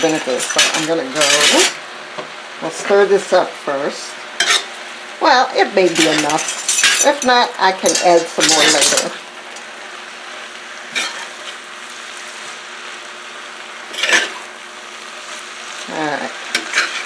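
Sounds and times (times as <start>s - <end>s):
greens sizzling in oil: 0.0s - 17.0s.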